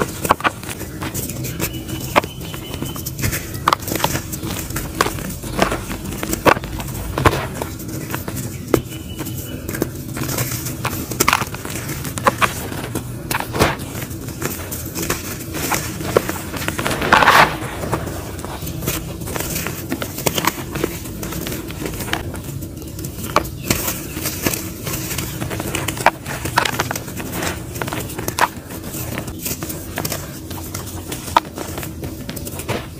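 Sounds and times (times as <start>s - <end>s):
dry mud crunching by hand: 0.0s - 32.9s.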